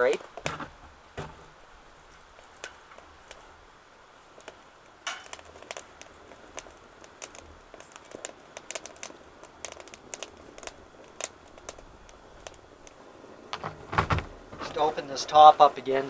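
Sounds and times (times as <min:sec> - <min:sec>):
wood fire crackling in stove: 0:00.0 - 0:16.0.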